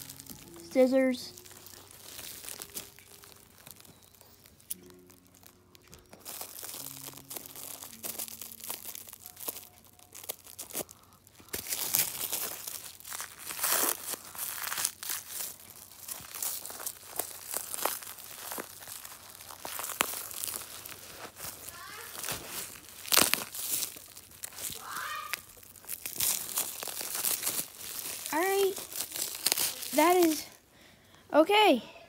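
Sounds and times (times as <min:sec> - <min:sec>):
plastic wrapping crinkling and tearing: 0:00.0 - 0:30.7.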